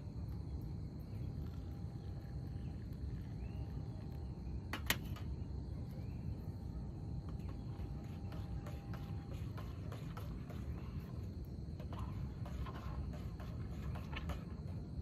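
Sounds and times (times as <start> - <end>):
insects chirping: 0.0 - 15.0
low outdoor rumble: 0.0 - 15.0.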